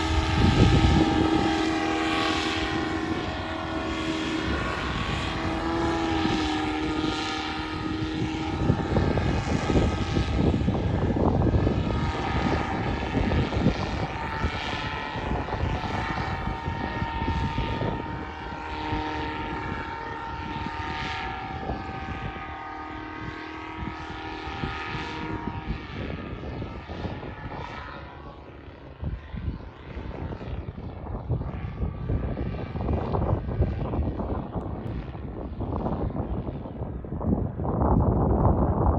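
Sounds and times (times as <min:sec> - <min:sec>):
paramotor engine and propeller: 0:00.0 - 0:38.9
wind buffeting microphone: 0:00.0 - 0:38.9.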